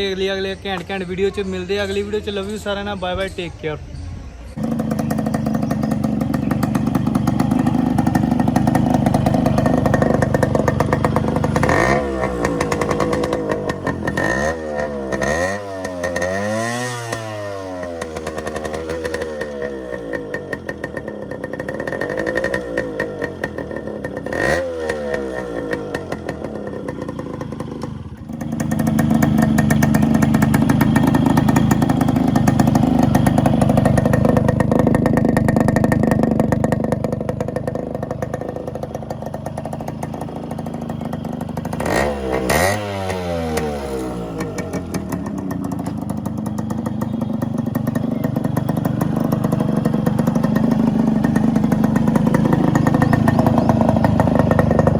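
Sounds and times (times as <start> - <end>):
two-stroke motorcycle revving: 4.5 - 54.9.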